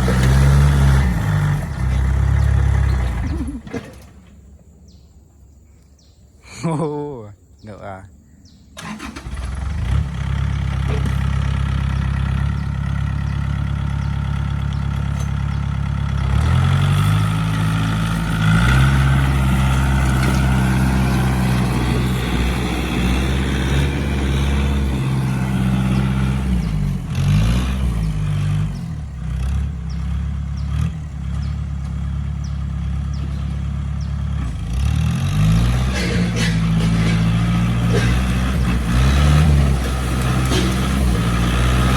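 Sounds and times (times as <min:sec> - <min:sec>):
tractor engine drone: 0:00.0 - 0:05.4, 0:08.8 - 0:41.9.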